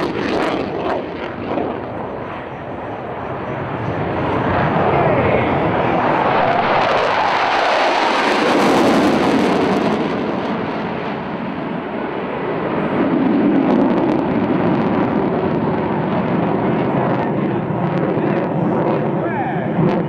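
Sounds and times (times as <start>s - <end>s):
fighter jet engine rush: 0.0s - 20.0s.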